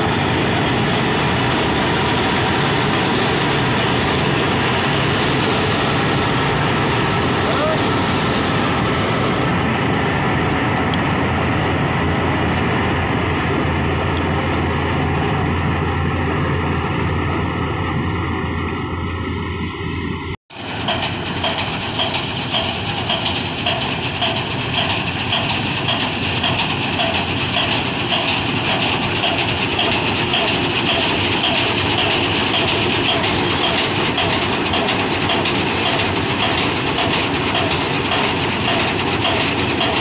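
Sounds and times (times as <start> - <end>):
rhythmic mechanical clatter: 0.0 - 18.3, 20.5 - 40.0
combine harvester engine drone: 0.0 - 40.0.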